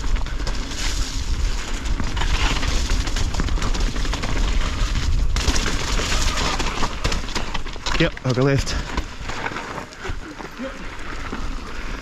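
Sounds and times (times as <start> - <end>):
bike rattling and knocking: 0.0 - 12.0.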